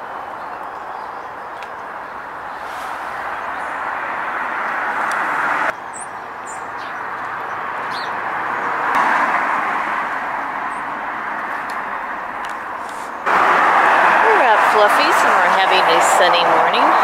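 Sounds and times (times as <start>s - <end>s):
outdoor rushing noise: 0.0s - 17.0s.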